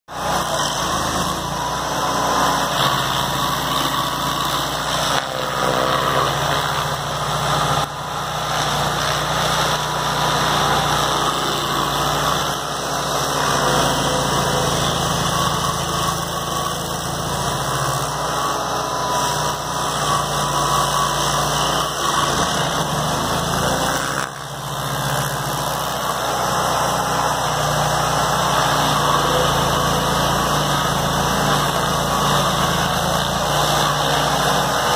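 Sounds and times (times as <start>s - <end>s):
cutter wheel grinding root: 0.1s - 34.9s
stump grinder engine running: 0.1s - 34.9s.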